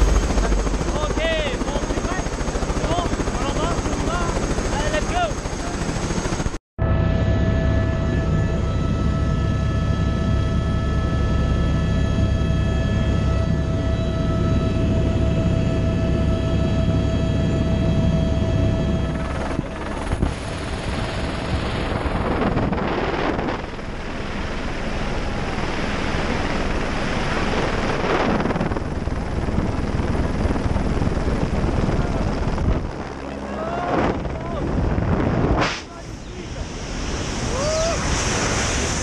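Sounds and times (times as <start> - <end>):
helicopter engine whine: 0.0 - 39.0
rush of wind and rotor noise: 0.0 - 39.0.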